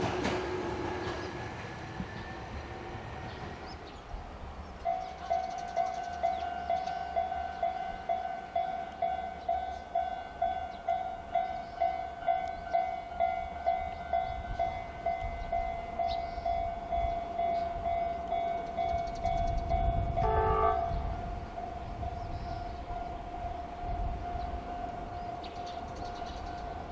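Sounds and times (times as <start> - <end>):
train low rumble: 0.0 - 26.9.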